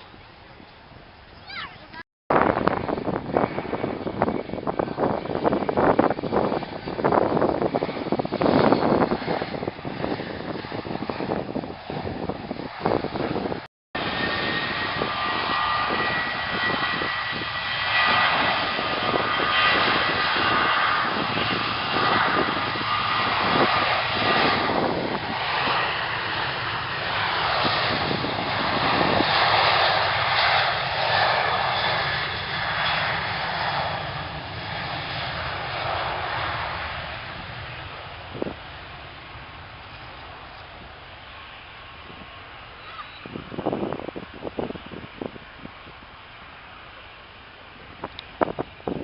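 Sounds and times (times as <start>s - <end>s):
airliner engines roaring past: 0.0s - 49.0s.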